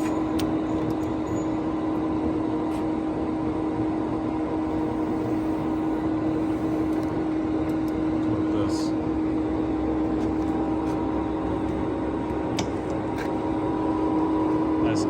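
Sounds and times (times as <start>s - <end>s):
lathe machine hum: 0.0s - 15.0s.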